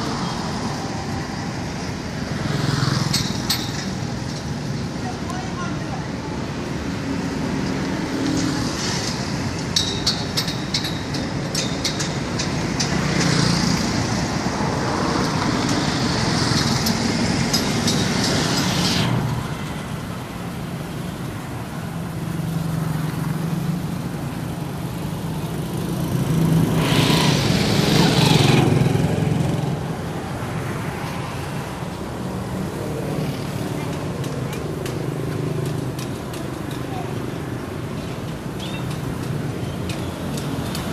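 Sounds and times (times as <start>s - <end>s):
motorbikes passing: 0.0s - 40.9s
road traffic: 0.0s - 40.9s.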